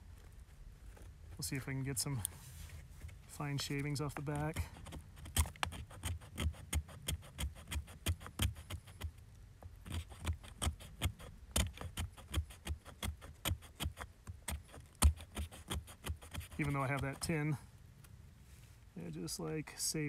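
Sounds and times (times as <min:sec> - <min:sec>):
knife scraping wood: 0:00.0 - 0:17.4.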